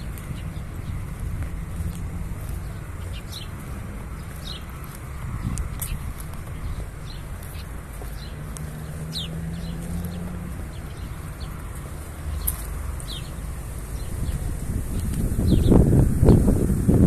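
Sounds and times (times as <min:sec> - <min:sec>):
small birds chirping: 0:00.0 - 0:16.9
steady low rumble: 0:00.0 - 0:17.0.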